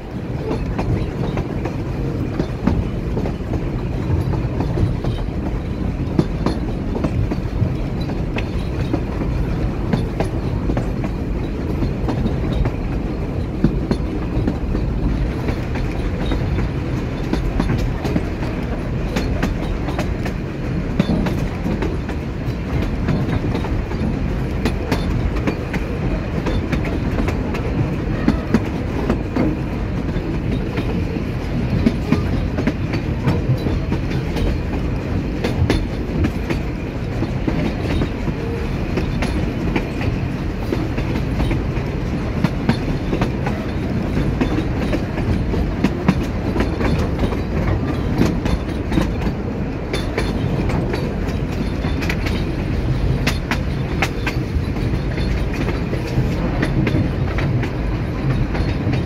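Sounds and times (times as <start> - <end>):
train wheels rumbling on rail: 0.0 - 59.0
sharp clicks and clacks: 0.4 - 59.0.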